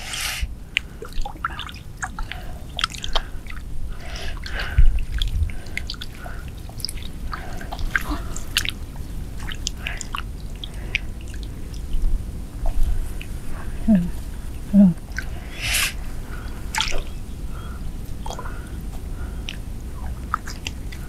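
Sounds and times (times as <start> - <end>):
mud squelching: 0.0 - 21.0
small splashes and drips: 0.7 - 21.0.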